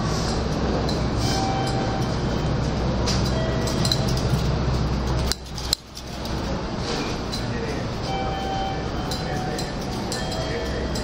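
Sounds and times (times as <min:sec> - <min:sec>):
low rumble of station crowd: 0:00.0 - 0:11.0
scattered clinks and clicks: 0:00.3 - 0:11.0.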